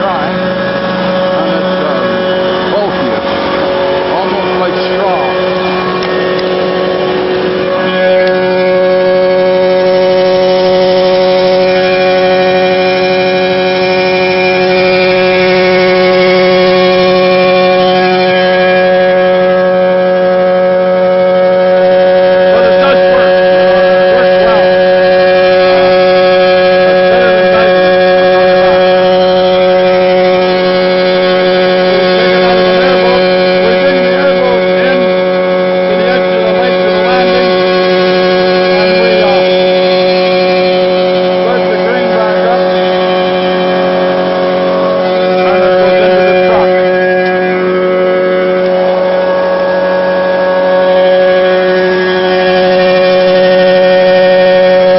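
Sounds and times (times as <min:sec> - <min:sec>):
grain vacuum machine whine: 0:00.0 - 0:54.9.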